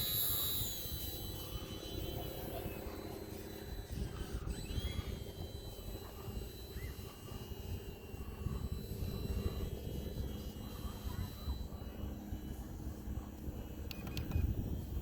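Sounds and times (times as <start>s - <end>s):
electric motor and propeller buzzing: 0.0s - 15.0s
wind rumbling on microphone: 0.7s - 15.0s.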